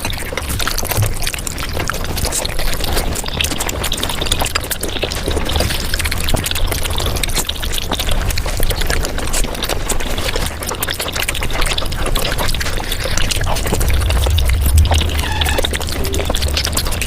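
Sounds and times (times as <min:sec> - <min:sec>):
sped-up chewing and slurping: 0:00.0 - 0:17.0.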